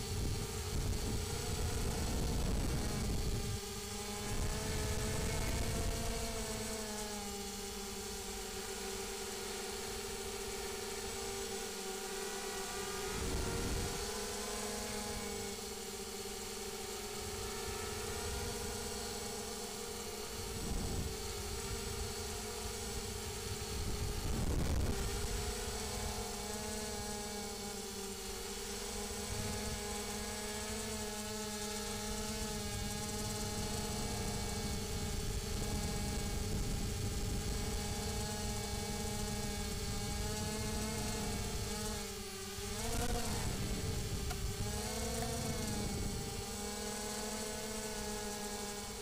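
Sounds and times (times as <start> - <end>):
drone motors whining: 0.0 - 49.0.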